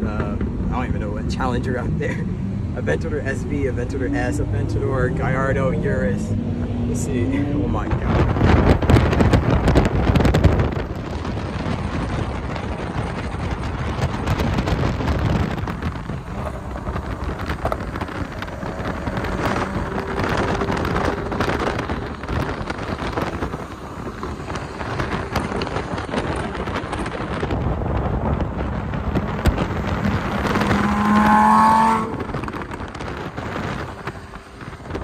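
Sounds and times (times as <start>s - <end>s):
tyre and traffic noise: 0.0s - 35.0s
wind buffeting microphone: 0.0s - 35.0s.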